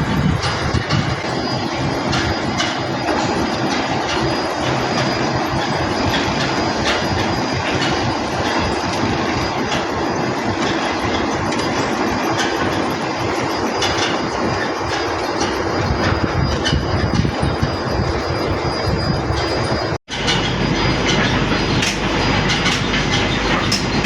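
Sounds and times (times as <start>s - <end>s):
concrete mixer truck rumbling: 0.0s - 24.0s.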